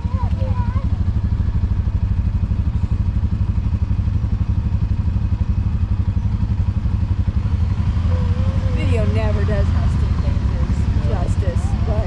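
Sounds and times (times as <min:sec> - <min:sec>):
utility vehicle engine idling: 0:00.0 - 0:12.0.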